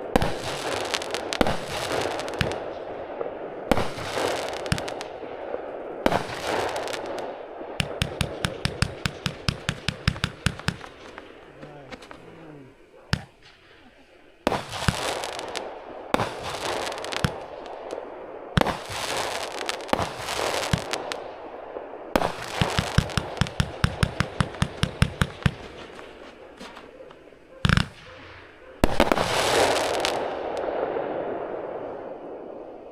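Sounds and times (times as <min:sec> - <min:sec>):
firework crackling: 0:00.0 - 0:26.9, 0:27.6 - 0:32.9.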